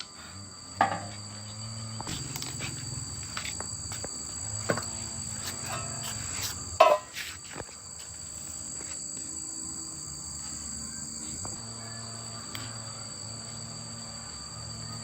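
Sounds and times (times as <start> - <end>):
high-pitched insect-like trilling: 0.0 - 15.0.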